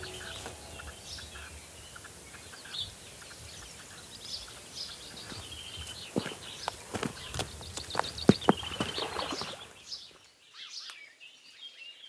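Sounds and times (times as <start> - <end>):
birds chirping: 0.0 - 12.0
faint background noise: 0.0 - 12.0.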